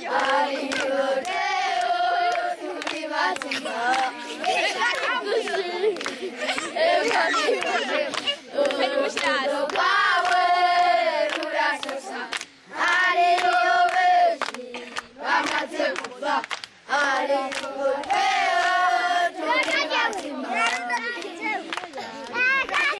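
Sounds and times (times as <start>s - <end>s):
children singing together: 0.0s - 22.9s.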